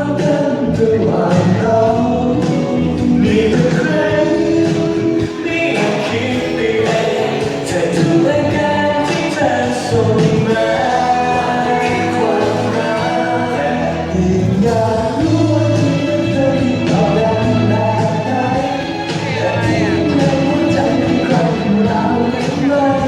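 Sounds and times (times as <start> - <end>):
song with singing and drums: 0.0 - 23.0.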